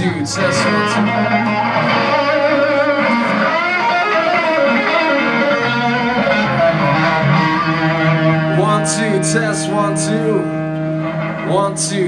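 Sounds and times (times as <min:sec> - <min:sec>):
electric guitar through amplifier: 0:00.0 - 0:12.0.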